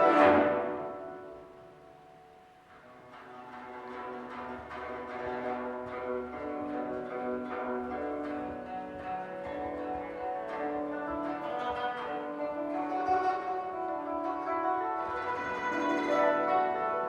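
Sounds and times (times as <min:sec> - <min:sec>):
koto plucked notes: 0:00.0 - 0:17.0.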